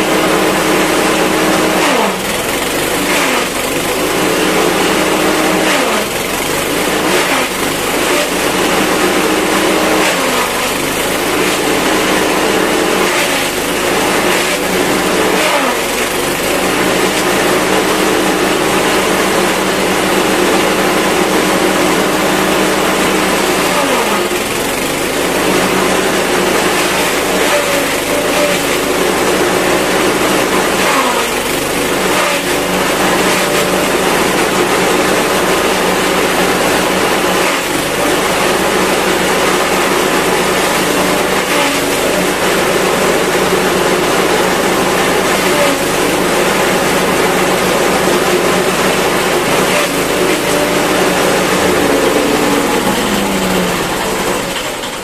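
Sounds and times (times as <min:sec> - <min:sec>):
chaff-cutter chopping grass stalks: 0:00.0 - 0:55.0
small petrol engine running: 0:00.0 - 0:55.0.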